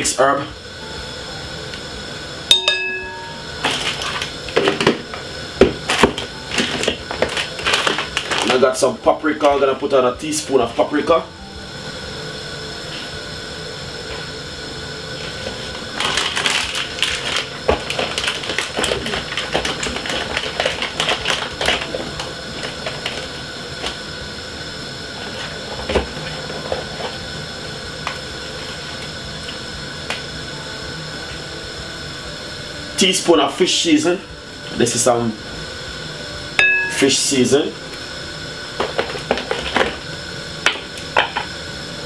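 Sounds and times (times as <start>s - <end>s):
background hum: 0.0s - 42.0s.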